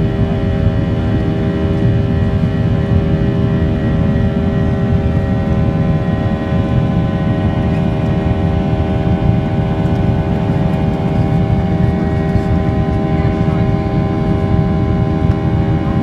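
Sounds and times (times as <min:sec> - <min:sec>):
jet engine roar in cabin: 0:00.0 - 0:16.0.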